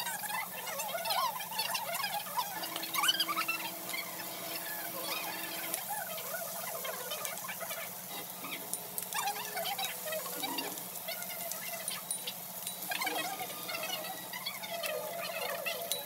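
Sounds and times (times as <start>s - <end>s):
meat sizzling on grill: 0.0s - 16.0s.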